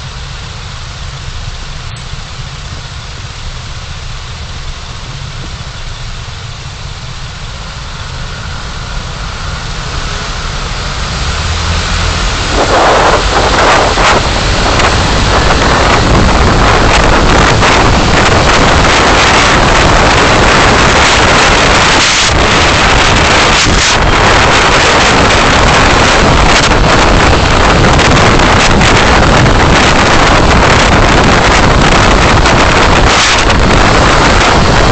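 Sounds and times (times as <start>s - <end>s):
car engine rumble: 0.0s - 34.9s
wind and road noise: 0.0s - 34.9s.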